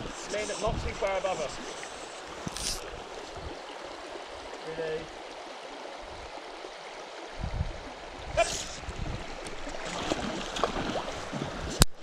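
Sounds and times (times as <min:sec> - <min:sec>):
stream rippling over stones: 0:00.0 - 0:12.0.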